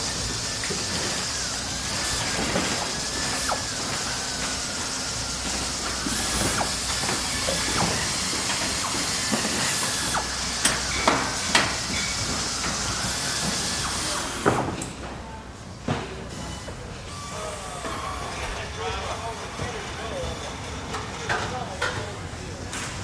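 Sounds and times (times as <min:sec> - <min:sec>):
hiss of running machines: 0:00.0 - 0:23.0.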